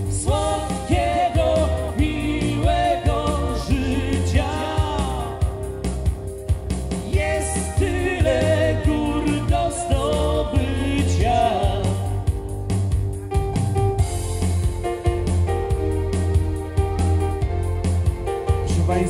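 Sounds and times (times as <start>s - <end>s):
dance-band music: 0.0s - 19.0s.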